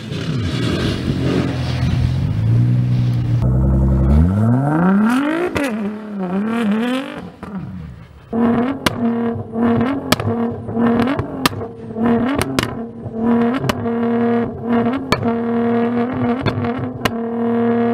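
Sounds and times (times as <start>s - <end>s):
car engine at high revs: 0.0s - 17.9s.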